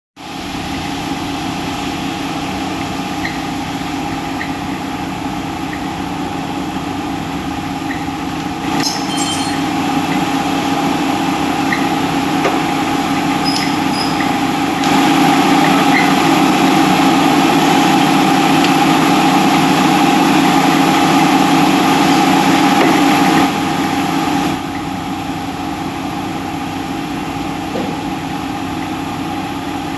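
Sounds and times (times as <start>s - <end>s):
machine hum with tones: 2.0s - 29.9s.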